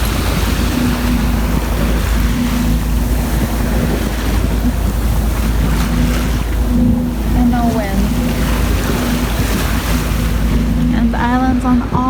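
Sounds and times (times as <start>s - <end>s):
boat engine hum: 0.0s - 12.0s
water washing along hull: 0.0s - 12.0s
wind buffeting microphone: 0.0s - 12.0s.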